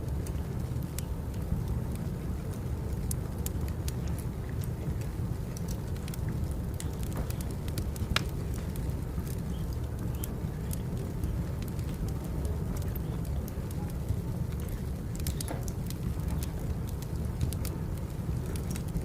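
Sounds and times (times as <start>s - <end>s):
fire flames rumbling: 0.0s - 19.0s
firewood crackling and popping: 0.0s - 19.0s.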